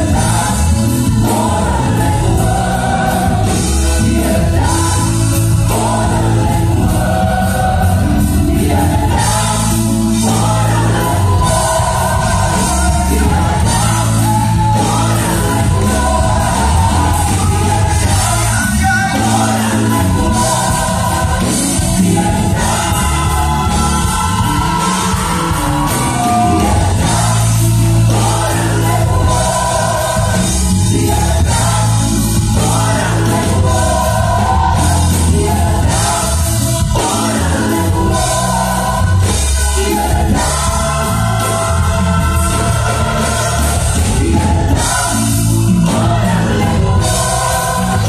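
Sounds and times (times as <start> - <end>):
bass line: 0.0 - 48.0
drums: 0.0 - 48.0
gospel choir singing: 0.0 - 48.0.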